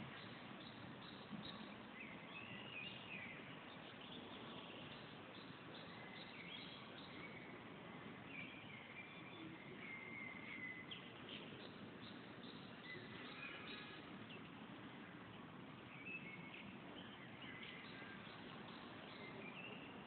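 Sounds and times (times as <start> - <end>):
faint background hiss: 0.0 - 20.0
songbirds singing: 0.0 - 20.0.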